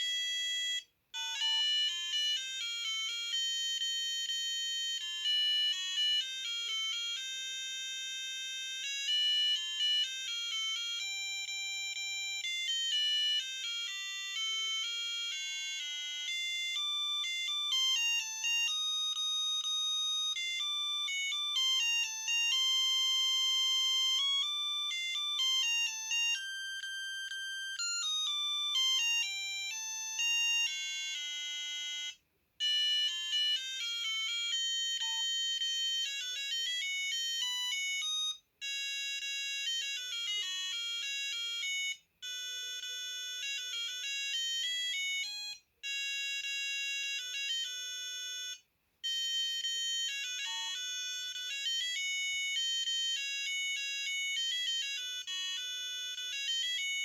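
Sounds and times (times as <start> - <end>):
mobile phone ringtone: 0.0 - 57.0.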